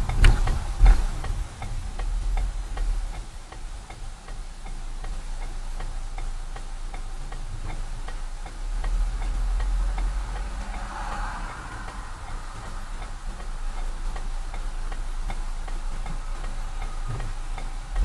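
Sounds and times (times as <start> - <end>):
car rumbling slowing down: 0.0 - 18.0
turn signal ticking: 0.0 - 18.0.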